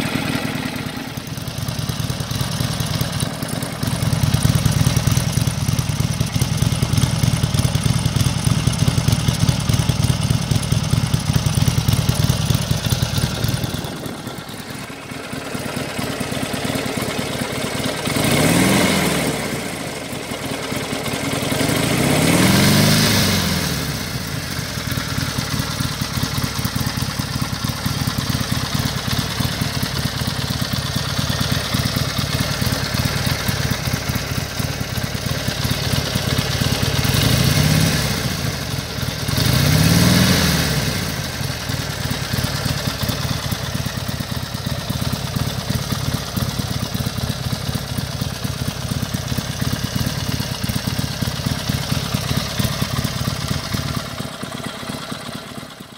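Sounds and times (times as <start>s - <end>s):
motorcycle engine idling: 0.0s - 55.9s
motorcycle engine revving: 0.0s - 55.9s.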